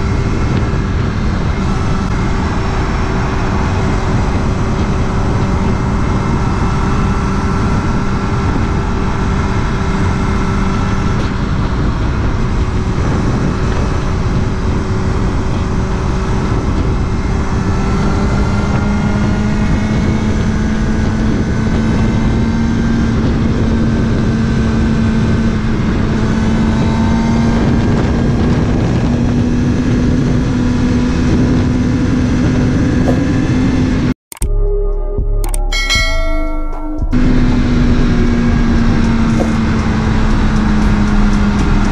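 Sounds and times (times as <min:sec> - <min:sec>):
wind noise: 0:00.0 - 0:34.1, 0:35.8 - 0:41.9
motorcycle engine running: 0:00.0 - 0:34.2, 0:35.7 - 0:41.9.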